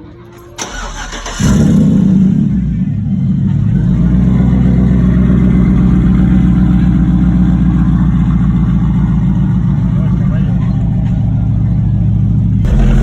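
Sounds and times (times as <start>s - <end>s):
truck engine idling: 0.6s - 13.0s.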